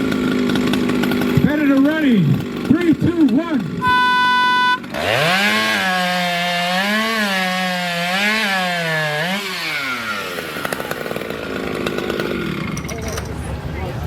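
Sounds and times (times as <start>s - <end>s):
chainsaw cutting through log: 0.0s - 13.0s.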